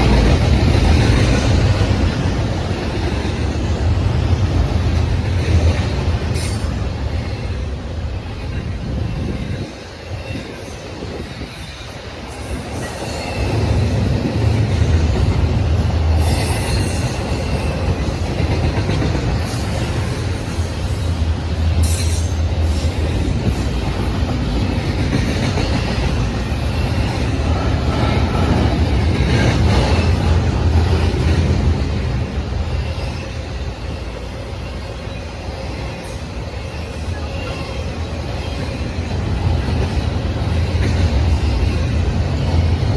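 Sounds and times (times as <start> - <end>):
freight train wheels rumbling: 0.0 - 42.9
train cars rattling: 0.0 - 42.9.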